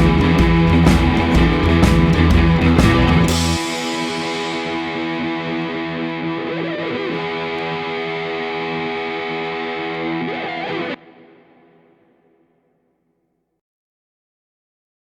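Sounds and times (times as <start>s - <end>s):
distorted electric guitar chord: 0.0s - 12.1s.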